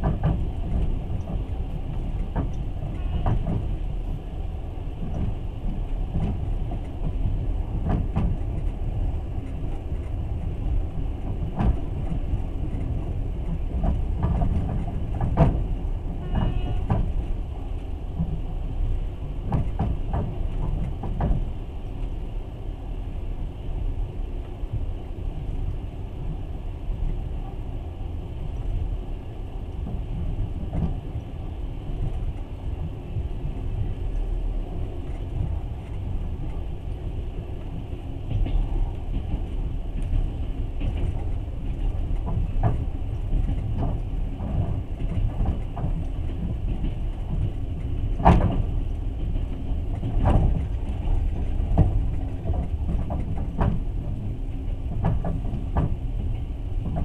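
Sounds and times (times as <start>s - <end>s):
train carriage rumble: 0.0s - 57.0s.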